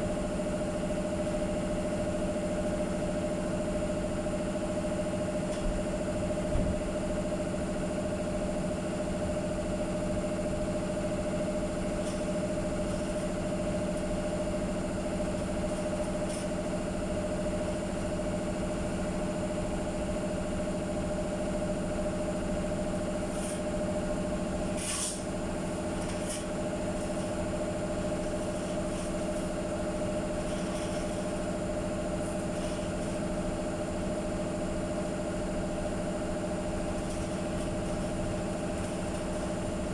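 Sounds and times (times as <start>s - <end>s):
two-tone mechanical hum: 0.0s - 39.9s.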